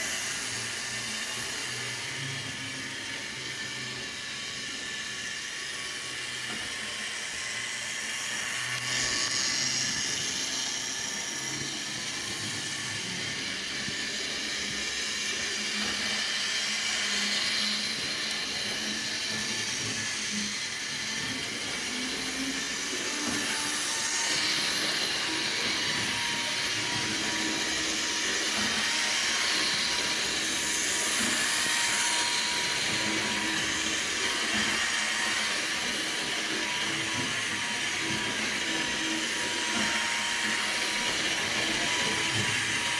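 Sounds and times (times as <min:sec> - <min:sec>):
model train motor whirring: 0:00.0 - 0:42.9.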